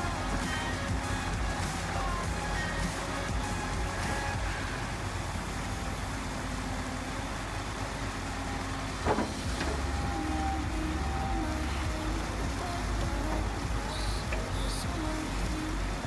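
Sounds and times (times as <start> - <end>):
excavator diesel engine running: 0.0 - 16.0
steady hydraulic whine: 0.0 - 16.0.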